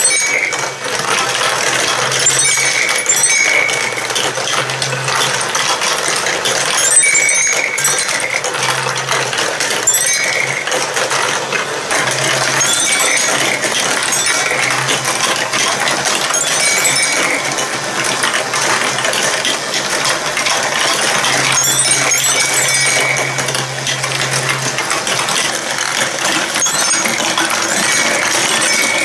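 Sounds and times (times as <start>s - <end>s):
marbles clattering through marble run: 0.0s - 29.0s
motorised conveyor lift running: 0.0s - 29.0s.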